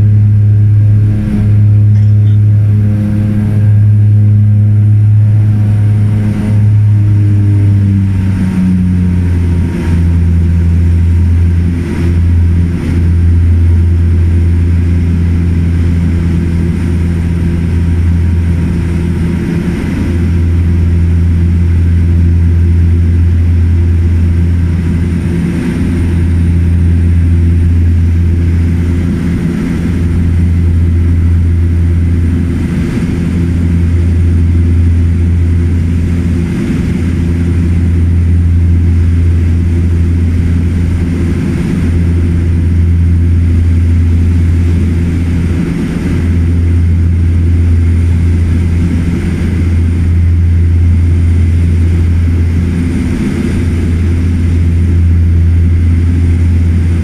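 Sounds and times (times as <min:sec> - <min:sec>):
turboprop engine drone: 0:00.0 - 0:57.0.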